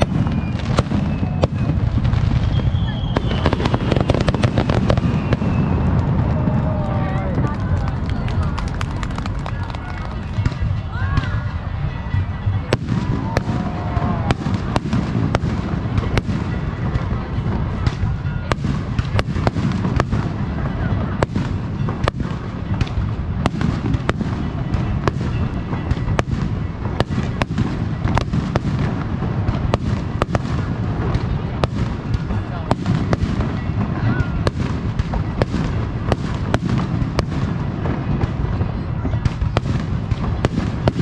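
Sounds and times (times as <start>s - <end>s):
deep rumble of fireworks bursts: 0.0s - 41.0s
fireworks bangs and crackles: 0.0s - 41.0s.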